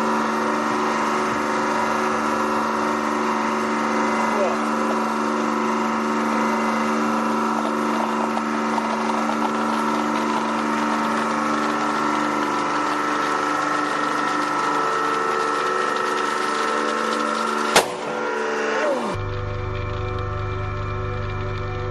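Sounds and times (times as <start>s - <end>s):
hydraulic pump humming: 0.0s - 21.9s.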